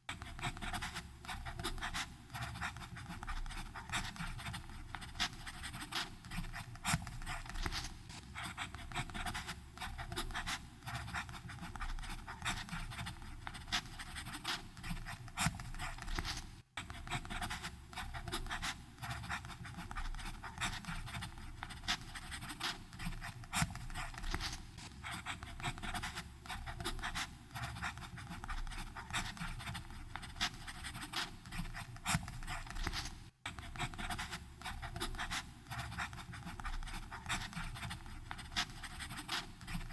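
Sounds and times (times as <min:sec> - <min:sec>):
pen nib scratching on paper: 0:00.0 - 0:39.9.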